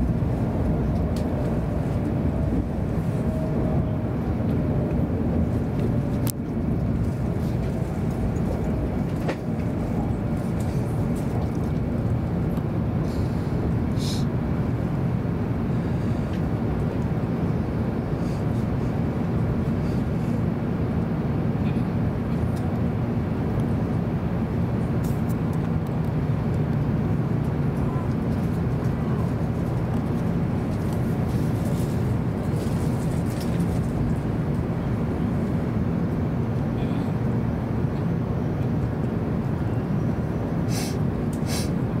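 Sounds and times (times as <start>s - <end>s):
train cabin rumble: 0.0s - 20.9s, 27.2s - 42.0s.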